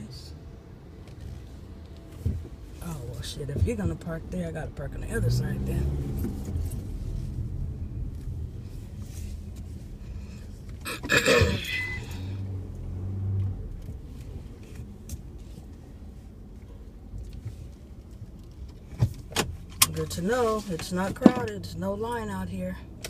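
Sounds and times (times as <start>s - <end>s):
car engine rumble and road noise: 0.0s - 23.0s.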